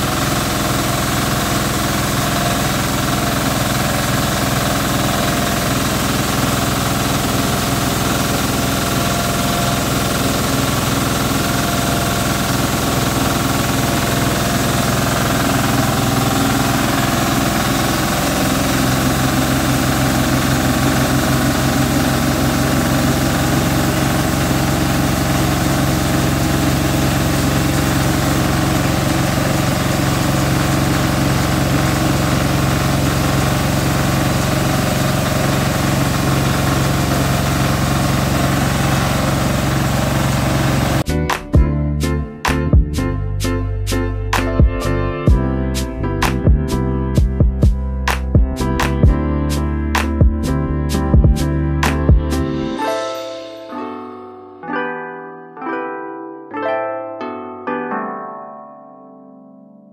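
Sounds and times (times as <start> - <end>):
engine running rice mill: 0.0 - 41.6, 43.4 - 52.8.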